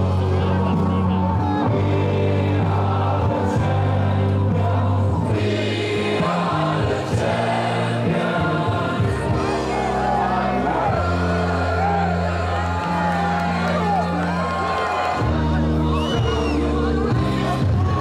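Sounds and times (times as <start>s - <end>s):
crowd of fans singing: 0.0s - 18.0s
music with held bass notes: 0.0s - 18.0s.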